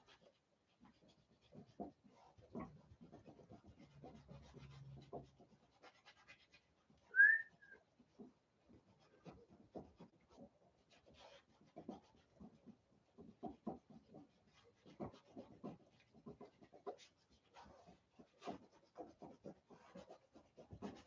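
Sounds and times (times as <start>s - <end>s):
paintbrush scratching on canvas: 0.0s - 21.0s.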